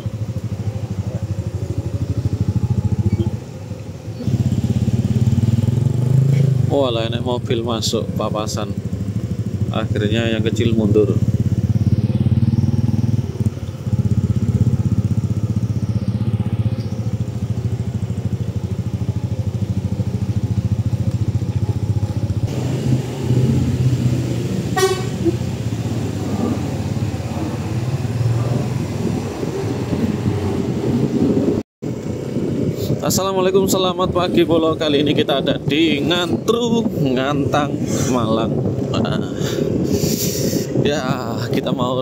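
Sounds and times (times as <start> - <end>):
motorcycle engine drone: 0.0 - 42.0.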